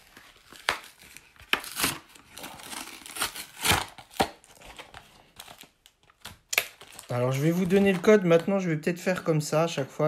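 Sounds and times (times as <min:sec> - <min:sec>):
plastic packaging tearing and crinkling: 0:00.0 - 0:08.4.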